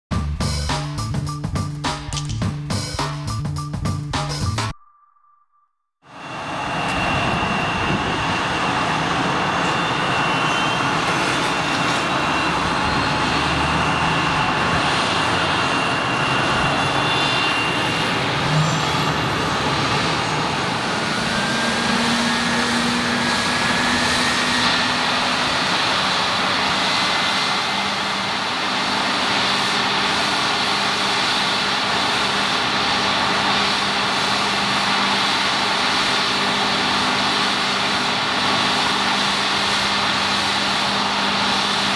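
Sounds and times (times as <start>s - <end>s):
jet engines running at low power: 6.1s - 41.9s.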